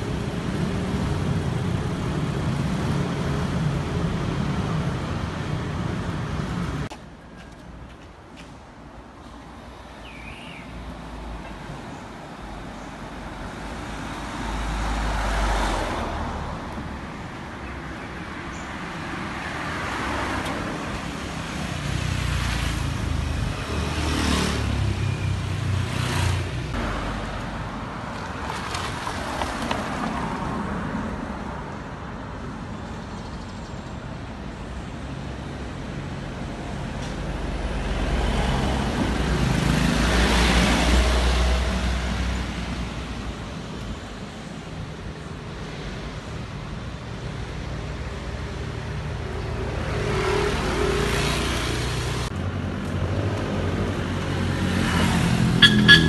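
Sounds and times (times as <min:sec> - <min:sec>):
low traffic rumble: 0:00.0 - 0:56.0
vehicles passing: 0:00.0 - 0:56.0.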